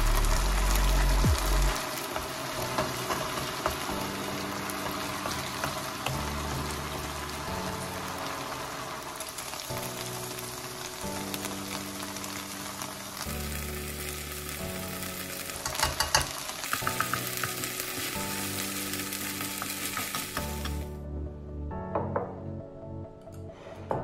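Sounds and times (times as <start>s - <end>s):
food sizzling in a frying pan: 0.0s - 20.9s
background music: 0.0s - 24.0s.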